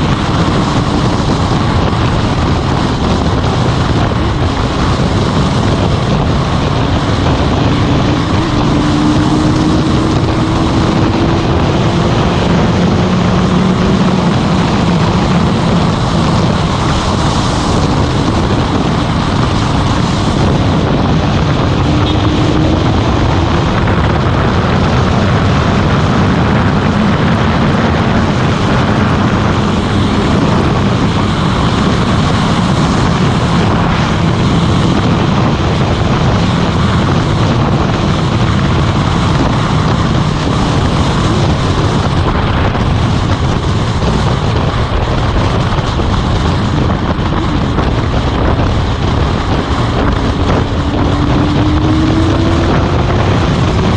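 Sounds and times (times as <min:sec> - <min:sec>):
motorcycle engine hum: 0:00.0 - 0:53.9
wind rush on microphone: 0:00.0 - 0:53.9.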